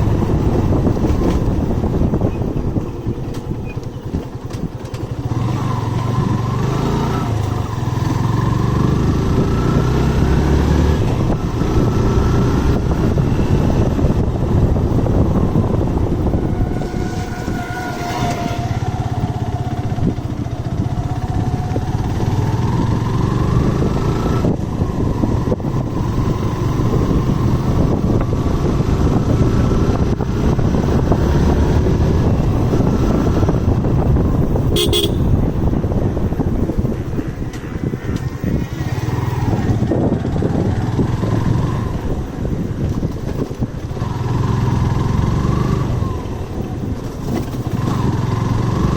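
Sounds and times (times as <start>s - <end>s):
motorcycle engine: 0.0s - 48.9s.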